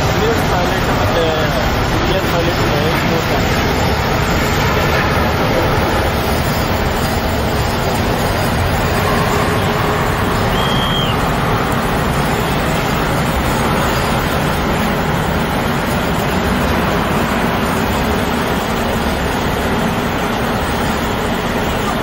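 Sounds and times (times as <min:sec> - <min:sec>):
jet airliner engines rushing: 0:00.0 - 0:22.0.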